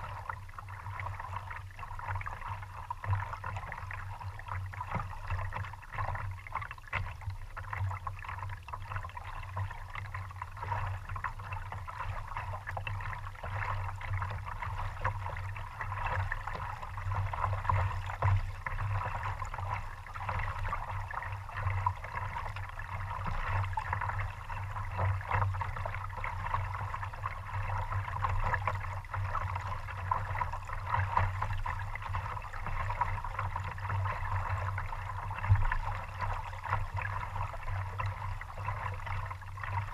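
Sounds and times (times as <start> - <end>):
water gurgling along a kayak hull: 0.0 - 39.9.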